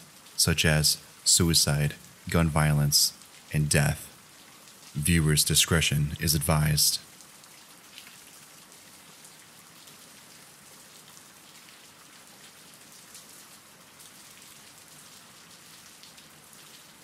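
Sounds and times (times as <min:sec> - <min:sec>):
raindrops pattering on a surface: 0:00.0 - 0:05.0, 0:06.0 - 0:17.0
steady rain hiss: 0:00.0 - 0:17.0.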